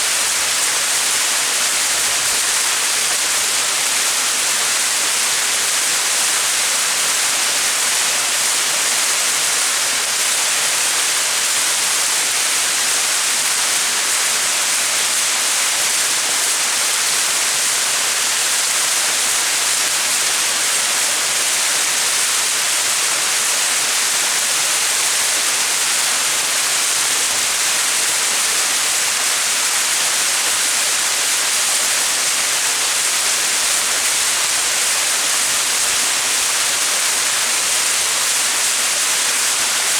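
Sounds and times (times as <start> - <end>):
waterfall splashing: 0.1 - 39.9.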